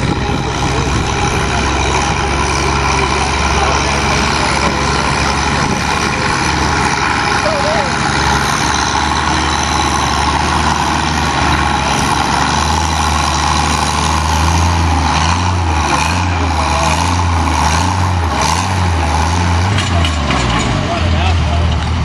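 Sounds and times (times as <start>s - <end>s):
tractor engines idling: 0.0s - 22.0s.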